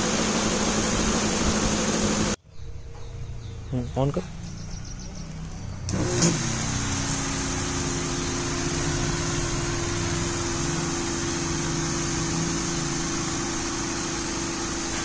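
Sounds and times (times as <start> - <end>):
electric pump humming: 0.0 - 2.4, 5.2 - 15.0.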